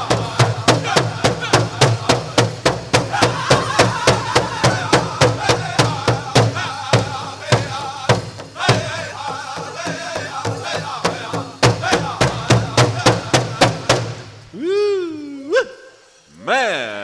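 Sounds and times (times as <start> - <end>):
big drum beat: 0.0 - 14.4
group singing: 0.0 - 14.4.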